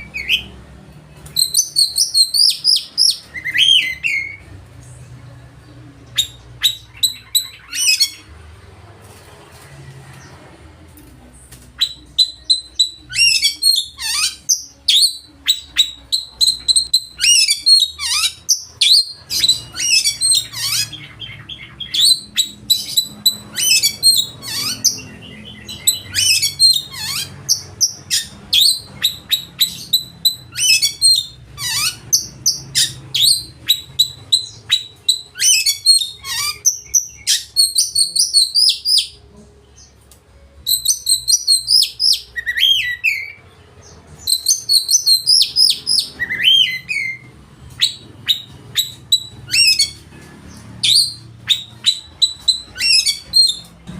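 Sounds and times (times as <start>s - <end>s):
songbird singing chirps and whistles: 0.0s - 8.6s, 10.0s - 53.9s.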